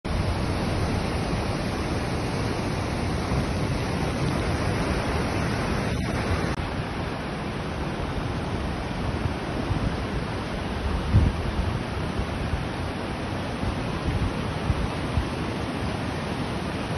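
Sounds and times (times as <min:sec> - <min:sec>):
floodwater rushing: 0:00.1 - 0:16.9
wind rumble on microphone: 0:00.1 - 0:16.9.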